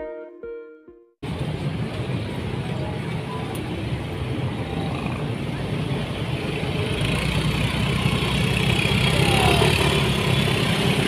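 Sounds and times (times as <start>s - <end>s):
street traffic: 1.2s - 11.0s.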